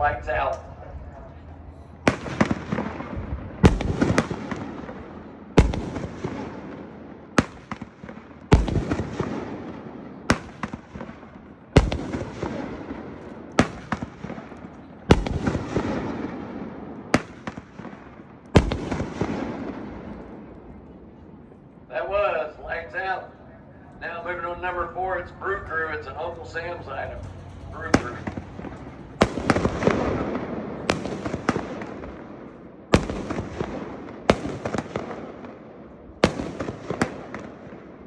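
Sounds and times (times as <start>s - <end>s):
firework bangs: 1.7s - 20.4s, 25.4s - 38.0s.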